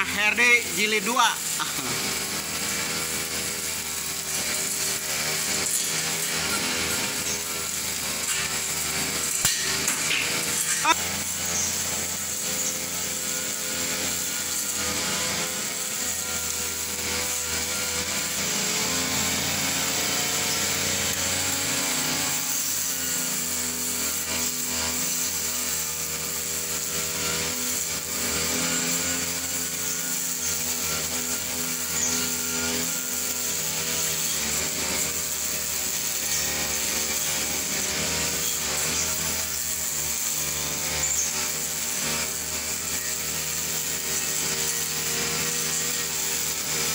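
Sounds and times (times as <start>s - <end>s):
brush cutter engine running: 0.0s - 46.9s
spinning head cutting grass: 0.0s - 46.9s.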